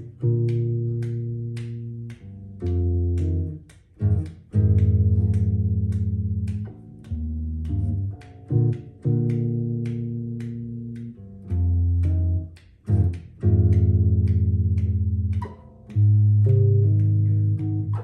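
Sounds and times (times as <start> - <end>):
electric bass plucked notes: 0.0 - 18.0.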